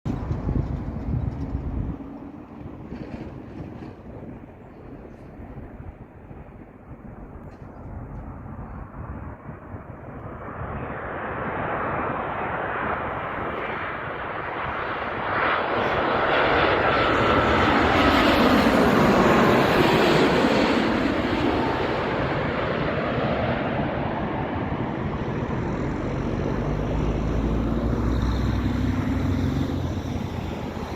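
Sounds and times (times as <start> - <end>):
jet airliner passing by: 0.1 - 30.9.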